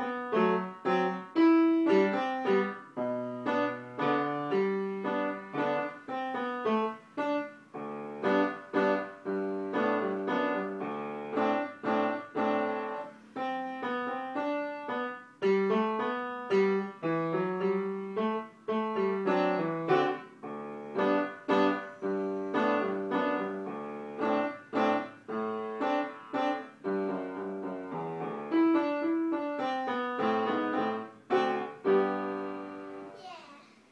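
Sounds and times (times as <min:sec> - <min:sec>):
upright piano playing: 0:00.0 - 0:33.2.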